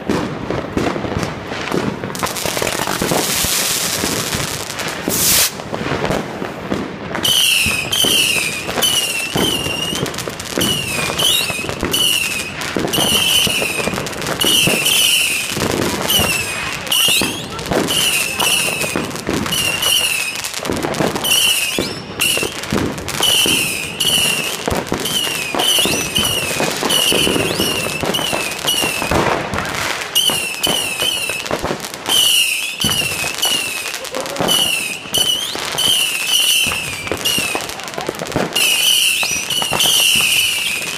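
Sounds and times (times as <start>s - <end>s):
fireworks bangs and crackle: 0.0s - 40.9s
falling firework whistles: 2.2s - 5.7s, 6.7s - 37.8s, 38.4s - 40.9s.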